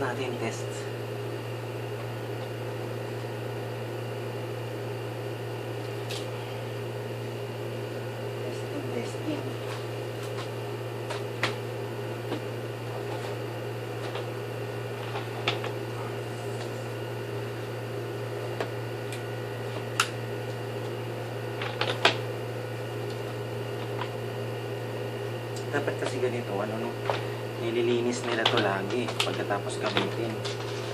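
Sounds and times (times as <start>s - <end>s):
vacuum cleaner motor running: 0.0s - 30.9s.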